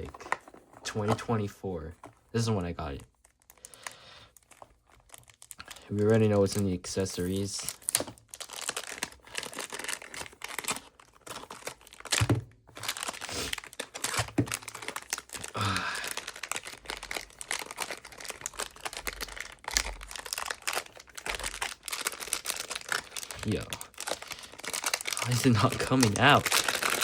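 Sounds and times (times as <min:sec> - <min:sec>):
plastic packaging crinkling: 0:00.0 - 0:27.0.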